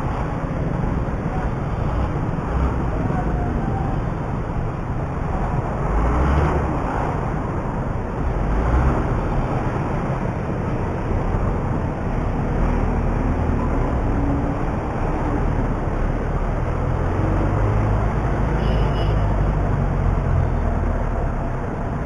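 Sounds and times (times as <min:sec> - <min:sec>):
road noise: 0:00.0 - 0:22.0
wind noise: 0:00.0 - 0:22.0.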